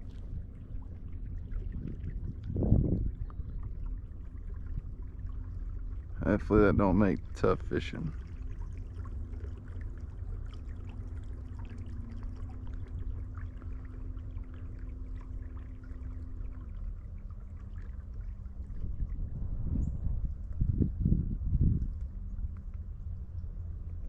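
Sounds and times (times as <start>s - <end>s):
low rumble: 0.0s - 24.0s
water splashing along hull: 0.0s - 24.0s.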